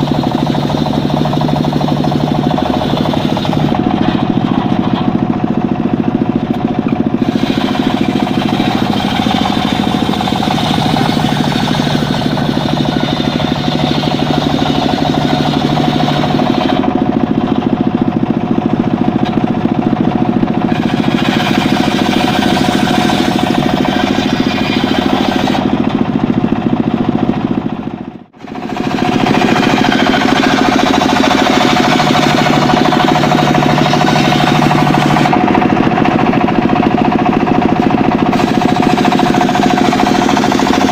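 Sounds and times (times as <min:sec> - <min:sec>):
circular sawmill sawing wood: 0:00.0 - 0:40.9.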